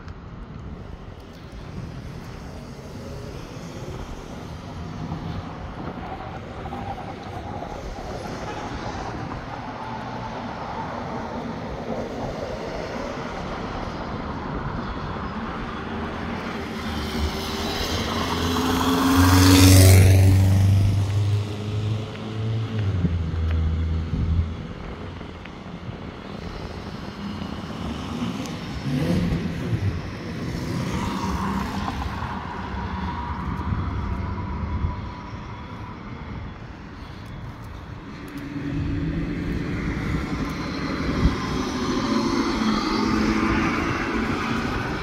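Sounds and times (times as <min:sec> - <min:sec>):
road traffic noise: 0:00.0 - 0:45.0.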